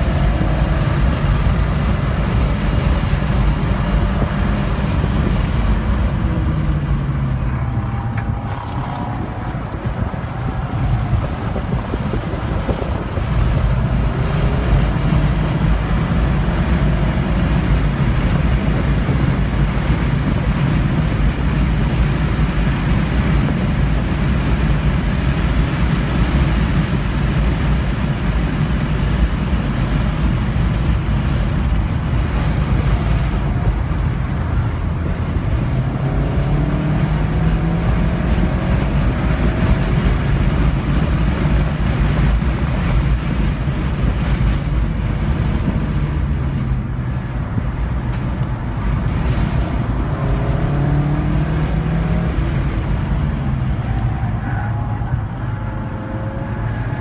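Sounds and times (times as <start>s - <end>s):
car engine at full throttle: 0.0s - 57.0s
road and wind noise: 0.0s - 57.0s.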